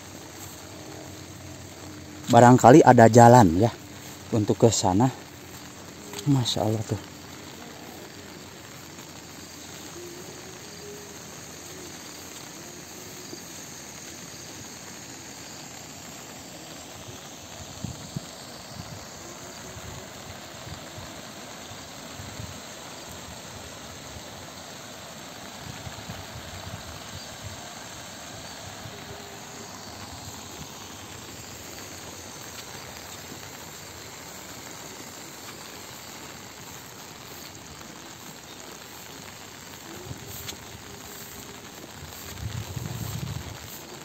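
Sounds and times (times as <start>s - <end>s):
outdoor hiss: 0.0s - 44.0s.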